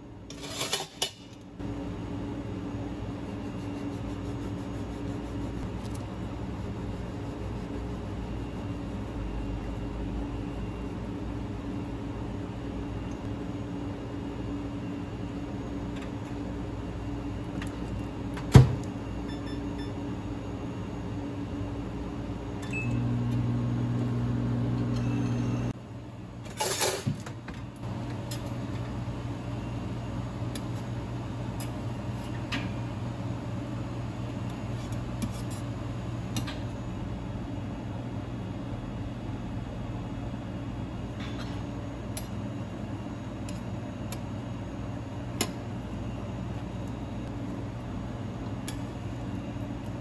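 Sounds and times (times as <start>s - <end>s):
cooking appliances humming: 0.0s - 50.0s
louder appliance hum: 0.0s - 50.0s.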